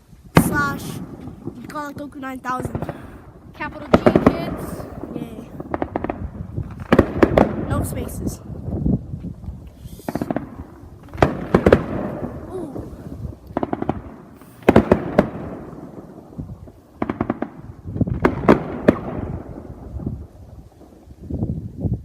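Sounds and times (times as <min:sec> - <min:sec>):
fireworks bangs: 0:00.3 - 0:21.0.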